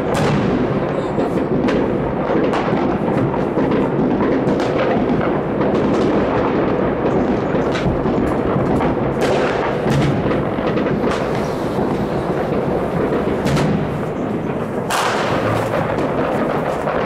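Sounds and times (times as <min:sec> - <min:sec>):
distant fireworks bangs and crackle: 0:00.0 - 0:17.0
loud firework bang: 0:00.0 - 0:17.0.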